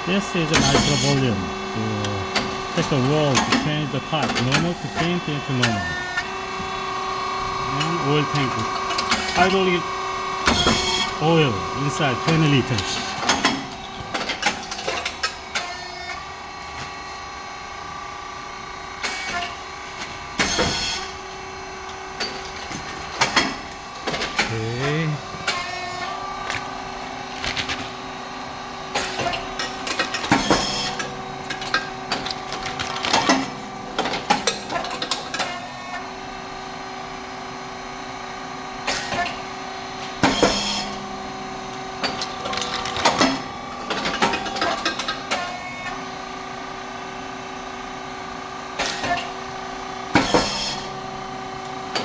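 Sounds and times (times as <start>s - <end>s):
pump and motor hum: 0.0s - 52.0s.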